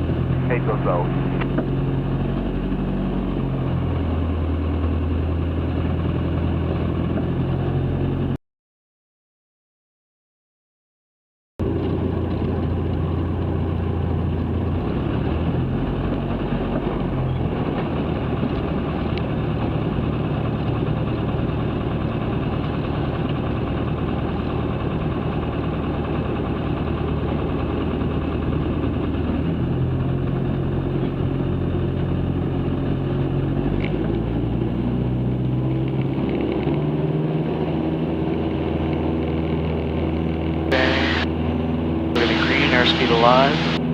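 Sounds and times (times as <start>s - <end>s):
light aircraft engine and propeller: 0.0s - 8.4s, 11.6s - 43.9s.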